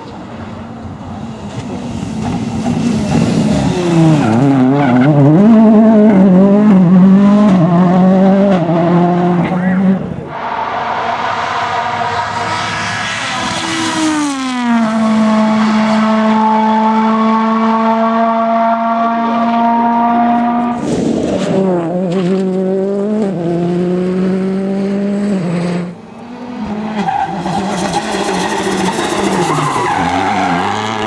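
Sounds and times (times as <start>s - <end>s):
rally car engine at full throttle: 0.0s - 31.0s.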